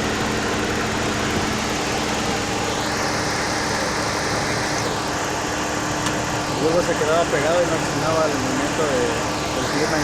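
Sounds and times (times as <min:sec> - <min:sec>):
car engine whirring: 0:00.0 - 0:10.0.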